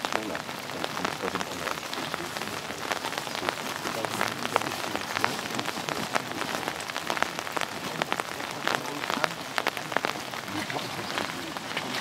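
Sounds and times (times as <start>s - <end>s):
close raindrop taps: 0.0s - 12.0s
steady rain: 0.0s - 12.0s.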